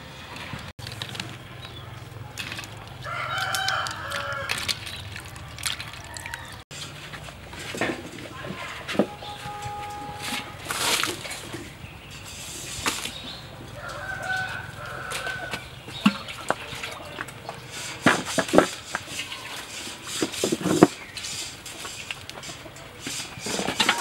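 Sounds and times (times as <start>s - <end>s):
chickens clucking: 1.5s - 24.0s.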